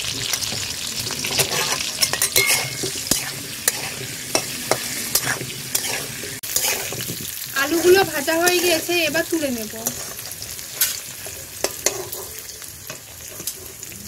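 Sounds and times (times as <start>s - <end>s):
potatoes sizzling in hot oil: 0.0s - 14.0s
spatula scraping and clinking pan: 0.2s - 7.1s, 7.7s - 13.7s.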